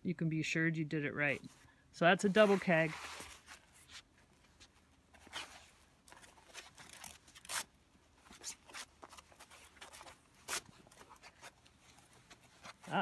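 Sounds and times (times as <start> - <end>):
rope rustling and scraping: 1.3 - 13.0.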